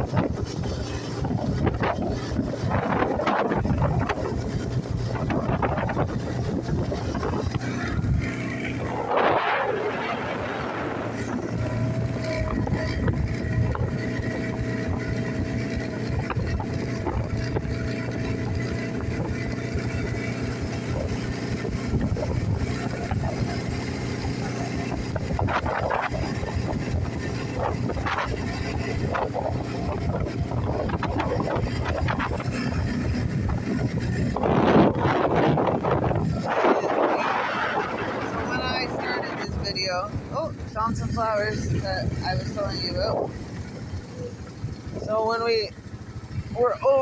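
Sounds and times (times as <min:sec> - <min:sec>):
atv engine running: 0:00.0 - 0:47.0
wind on microphone: 0:00.0 - 0:47.0.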